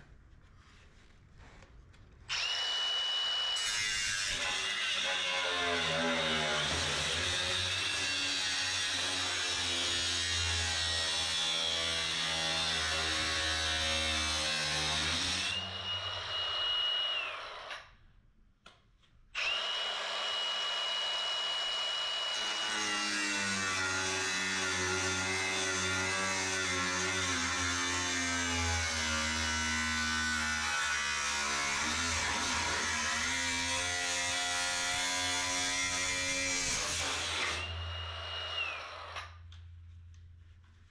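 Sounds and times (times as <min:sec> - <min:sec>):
angle grinder on steel: 0:02.3 - 0:17.7, 0:19.4 - 0:39.2.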